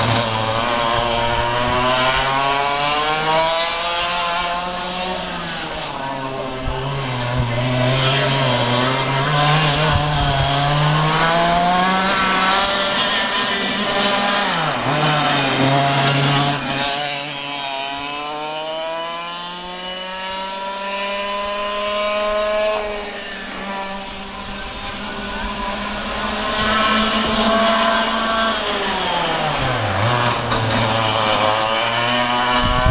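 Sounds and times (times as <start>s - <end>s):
racing kart engine revving: 0.0s - 32.9s.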